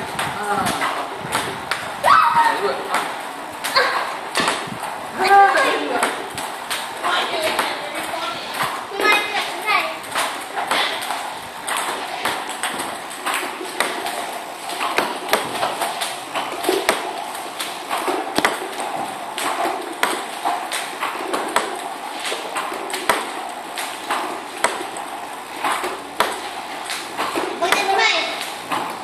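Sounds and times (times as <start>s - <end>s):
table tennis balls clicking: 2.5s - 29.0s.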